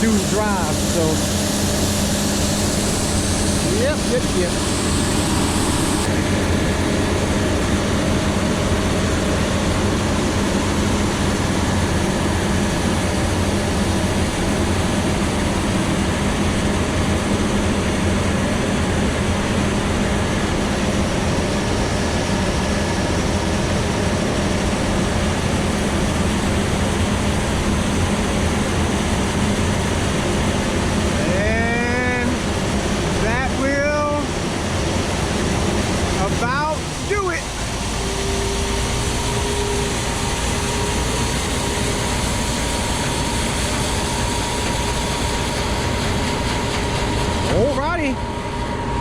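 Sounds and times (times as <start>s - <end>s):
heavy farm machinery engine: 0.0s - 49.0s.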